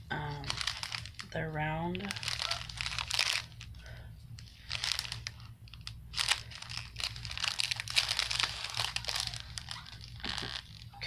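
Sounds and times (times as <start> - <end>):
plastic bags crinkling: 0.0 - 11.0
steady low hum: 0.0 - 11.0.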